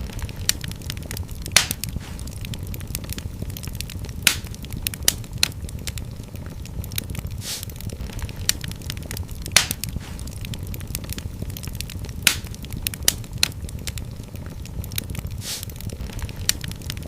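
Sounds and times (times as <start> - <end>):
low rumble of flames: 0.0 - 17.0
sharp fire pops: 0.0 - 17.0
wood fire crackling: 0.0 - 17.0.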